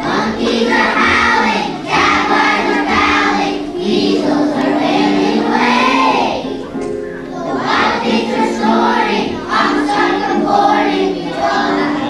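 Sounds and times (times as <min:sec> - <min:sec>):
children's choir singing: 0:00.0 - 0:12.0
musical accompaniment: 0:00.0 - 0:12.0.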